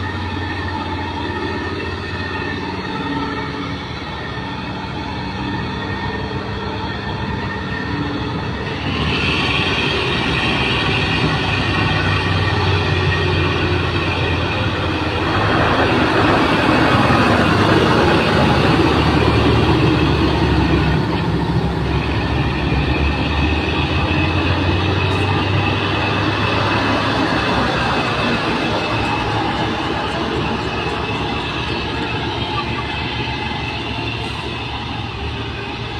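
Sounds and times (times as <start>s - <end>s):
diesel lorry engines droning: 0.0s - 35.9s
high engine whine: 0.0s - 35.9s.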